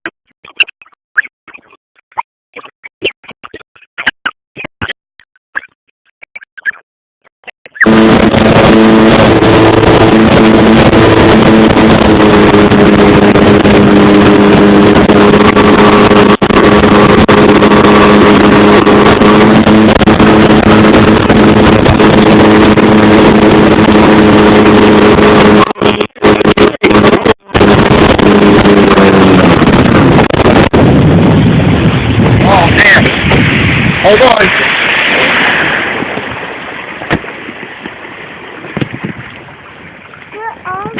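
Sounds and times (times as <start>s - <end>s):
jet ski engine running: 7.6s - 40.9s
rush of wind and water: 7.7s - 40.9s.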